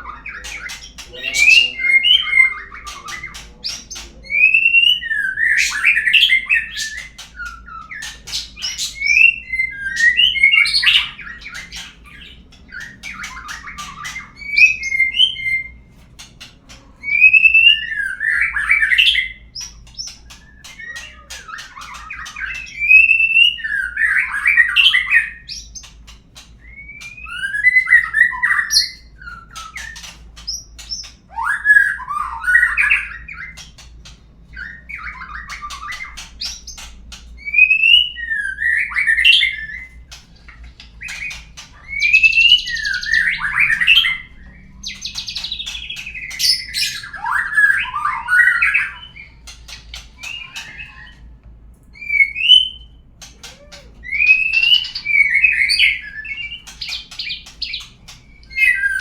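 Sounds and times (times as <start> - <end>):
songbird whistling and warbling: 0.0 - 15.9, 17.0 - 33.8, 34.5 - 59.0.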